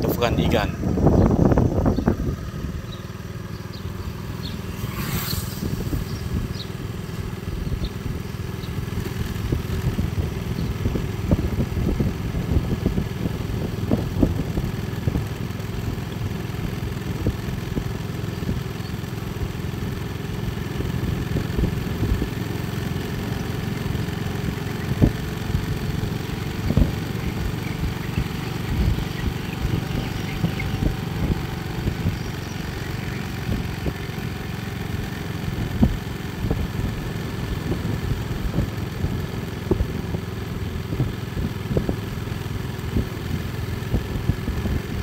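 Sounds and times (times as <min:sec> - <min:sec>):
motorcycle engine rumbling: 0:00.0 - 0:45.0.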